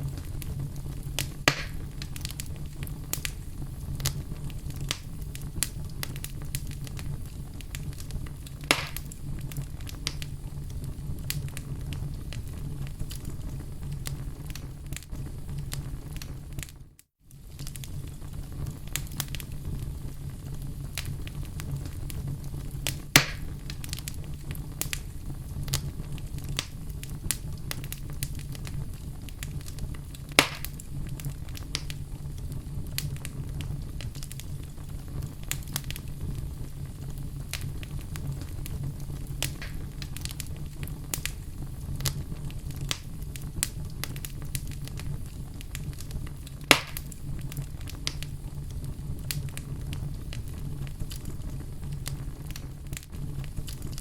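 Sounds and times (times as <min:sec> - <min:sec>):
rumble of fire flames: 0:00.0 - 0:54.0
sharp pops from fire: 0:00.0 - 0:54.0
wood fire crackling: 0:00.0 - 0:54.0.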